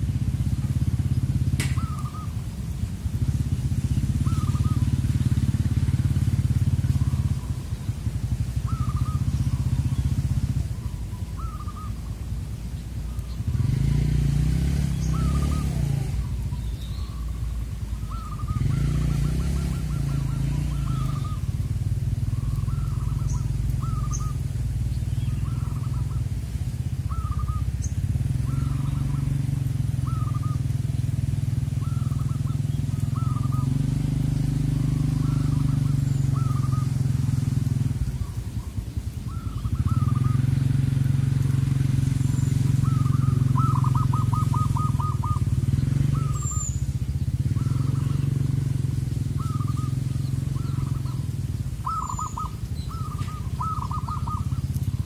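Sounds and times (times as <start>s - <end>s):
doves cooing: 0.0s - 55.0s
low engine drone: 0.0s - 55.0s.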